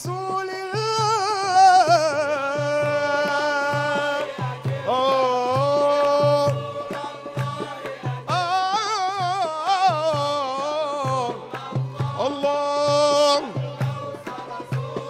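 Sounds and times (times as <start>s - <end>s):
hand drum beat: 0.0s - 15.0s
man singing long ornamented notes: 0.0s - 15.0s.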